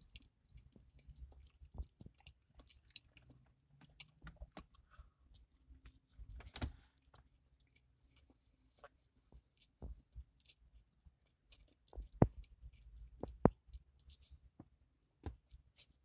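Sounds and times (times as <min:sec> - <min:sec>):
person chewing a sandwich: 0:00.0 - 0:16.0.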